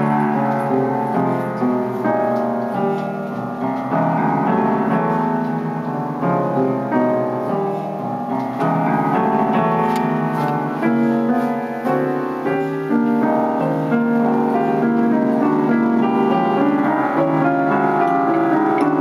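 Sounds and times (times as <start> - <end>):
upright piano piece: 0.0 - 19.0.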